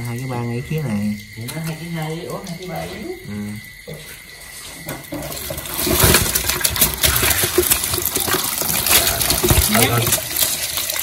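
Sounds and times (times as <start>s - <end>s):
prawns clattering and splashing: 0.0s - 11.0s.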